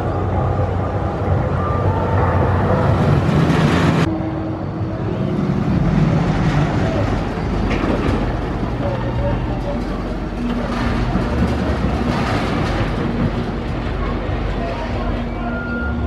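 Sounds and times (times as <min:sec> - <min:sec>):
roller coaster rumbling on track: 0:00.0 - 0:16.0.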